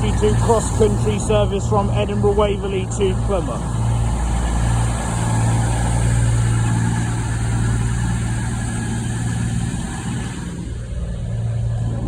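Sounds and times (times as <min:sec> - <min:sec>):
diesel train engines humming: 0:00.0 - 0:12.0.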